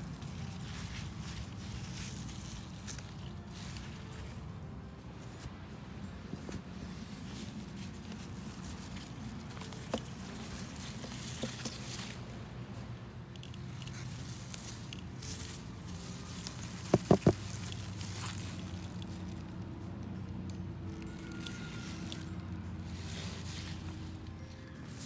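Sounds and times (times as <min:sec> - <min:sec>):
leaves rustling: 0:00.0 - 0:25.0
soil scraping and crunching: 0:00.0 - 0:25.0.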